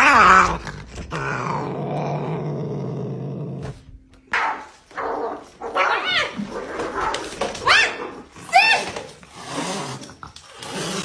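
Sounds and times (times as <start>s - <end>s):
cat growling: 0.0s - 11.0s.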